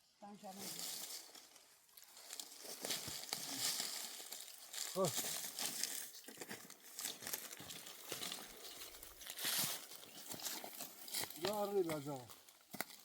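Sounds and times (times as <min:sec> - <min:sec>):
dry branches crackling: 0:00.4 - 0:13.0.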